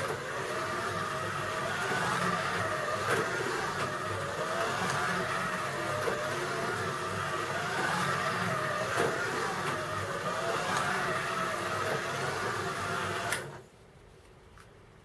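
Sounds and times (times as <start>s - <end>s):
slot car electric motor whining: 0.0s - 13.6s.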